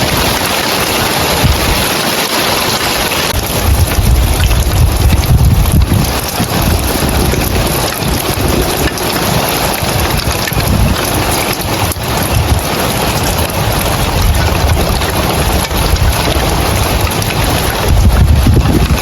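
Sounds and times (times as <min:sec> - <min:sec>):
heavy rain on roof tiles: 0:00.0 - 0:19.0
wind rumble on microphone: 0:00.0 - 0:19.0.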